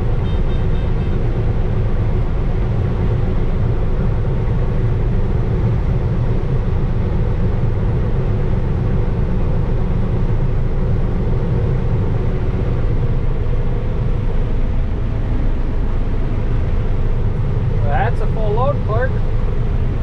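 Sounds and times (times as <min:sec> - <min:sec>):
combine harvester engine rumble: 0:00.0 - 0:20.0.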